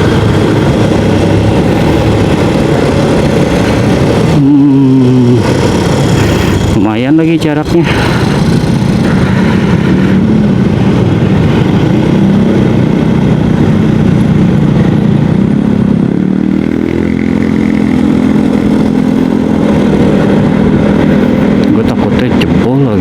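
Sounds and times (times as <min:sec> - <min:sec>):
road noise: 0:00.0 - 0:23.0
scooter engine running: 0:00.0 - 0:23.0
wind rumbling: 0:00.0 - 0:23.0.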